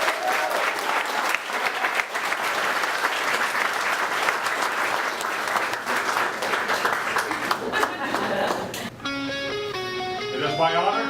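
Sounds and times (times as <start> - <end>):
guests applauding and cheering: 0.0 - 8.9.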